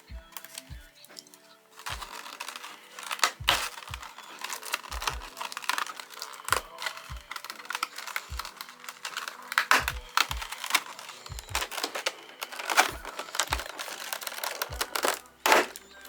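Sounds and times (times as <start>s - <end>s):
faint background music: 0.0s - 16.0s
packaging crinkling and rustling: 0.0s - 16.0s.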